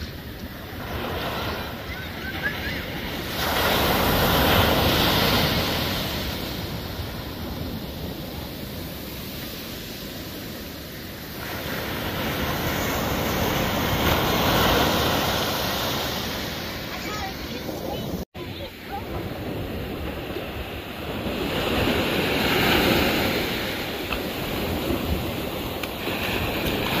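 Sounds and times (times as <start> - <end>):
ocean waves breaking on beach: 0.0 - 27.0.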